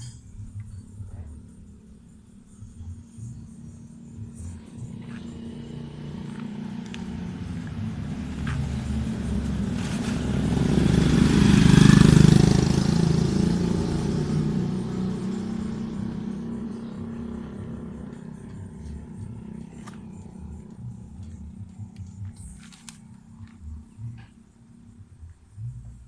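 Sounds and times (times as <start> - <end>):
motorcycle passing: 0.0 - 25.0.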